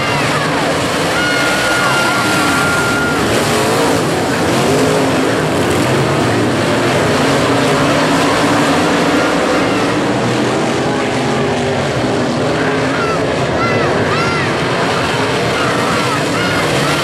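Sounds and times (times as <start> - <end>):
race car engines running hard: 0.0 - 17.0.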